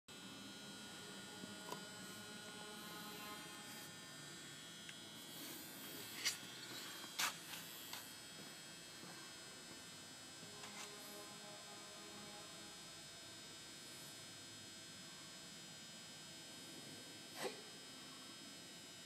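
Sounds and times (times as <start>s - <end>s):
electrical machine hum and buzz: 0.1s - 19.0s.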